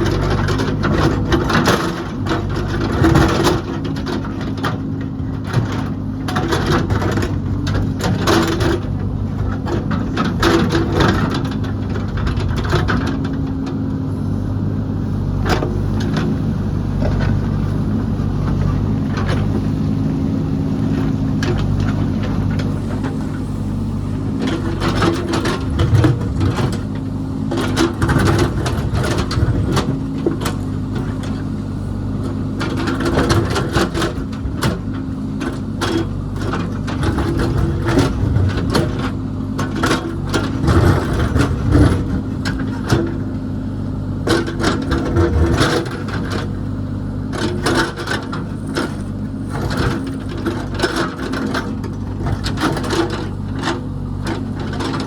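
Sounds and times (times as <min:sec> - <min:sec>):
construction machine engine running: 0:00.0 - 0:55.0.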